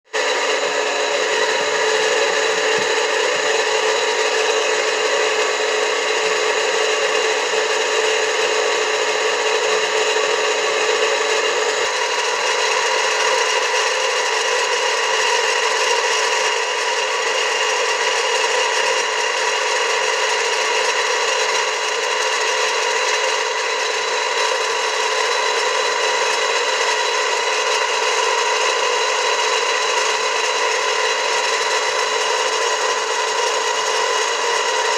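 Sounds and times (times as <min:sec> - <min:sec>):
water pump motor grinding: 0:00.1 - 0:34.9.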